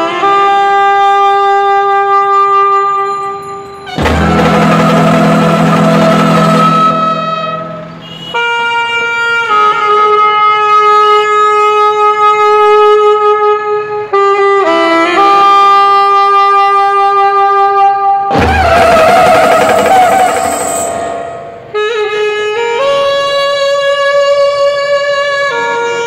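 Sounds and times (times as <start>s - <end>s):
reedy wind instrument melody: 0.0s - 25.9s.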